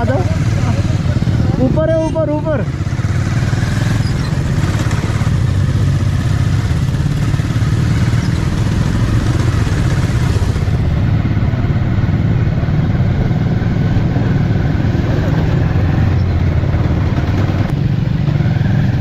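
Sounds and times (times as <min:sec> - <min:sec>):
motorcycle engine drone: 0:00.0 - 0:19.0
wind and road noise: 0:00.0 - 0:19.0.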